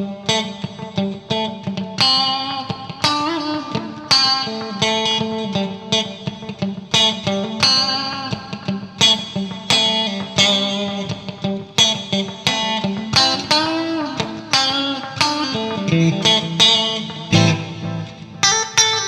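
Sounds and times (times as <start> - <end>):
electric guitar picked notes: 0.0 - 19.0.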